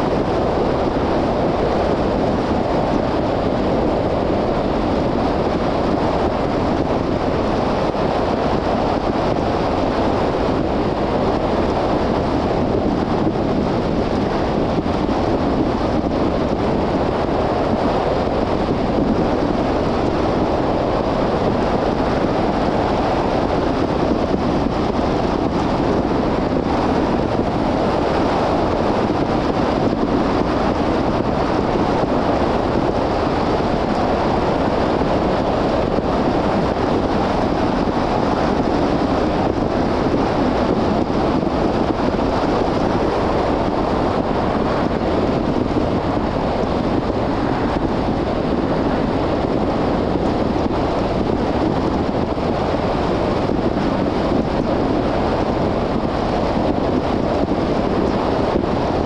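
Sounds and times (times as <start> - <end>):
car tyres and wind rushing: 0.0 - 59.0.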